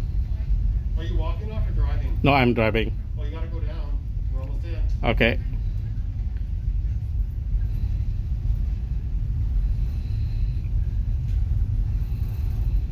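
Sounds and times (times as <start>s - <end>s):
faint high whine: 0.0s - 12.9s
ship engines rumbling: 0.0s - 12.9s.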